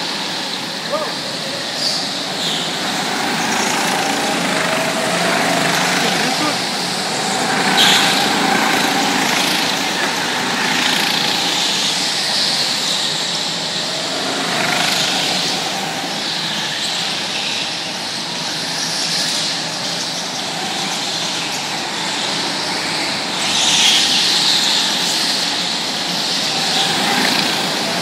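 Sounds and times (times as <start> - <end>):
go-kart engines droning: 0.0 - 28.0.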